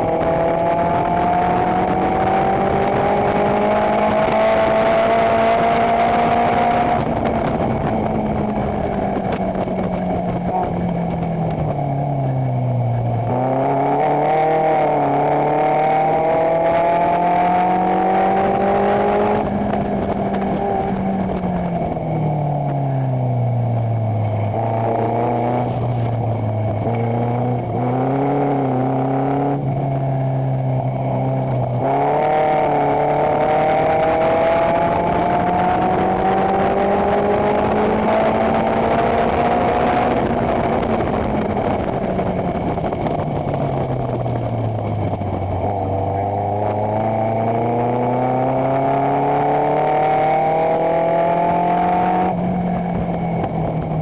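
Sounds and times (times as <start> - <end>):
racing car engine: 0.0 - 54.0
wind noise: 0.0 - 54.0.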